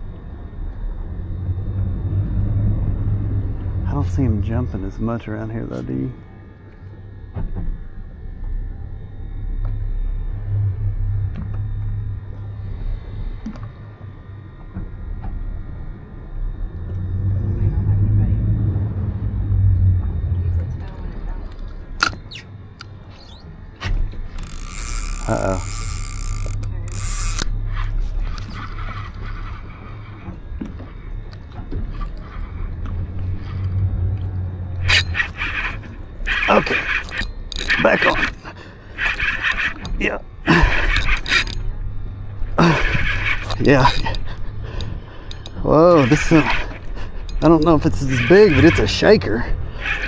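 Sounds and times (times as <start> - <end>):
low uneven rumble: 0.0 - 50.0
boat motor idling: 2.9 - 50.0.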